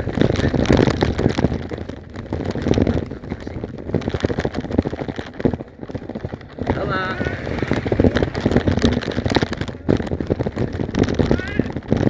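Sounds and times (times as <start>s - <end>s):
bicycle rattling over dirt track: 0.0s - 12.0s
wind buffeting microphone: 0.0s - 12.0s.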